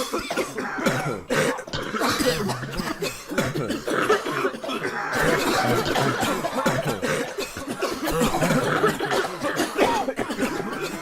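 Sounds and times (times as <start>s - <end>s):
crowd coughing: 0.0s - 11.0s.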